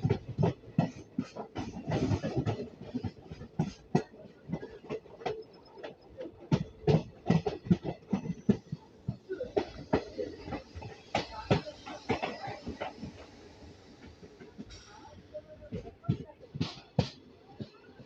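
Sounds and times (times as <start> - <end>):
train wheels clattering over rail joints: 0.0 - 18.0.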